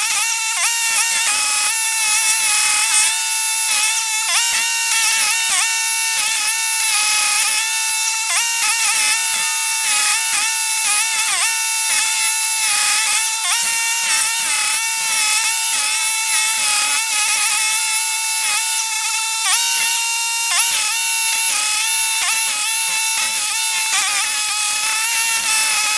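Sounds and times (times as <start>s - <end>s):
stump grinder whining: 0.0s - 25.9s.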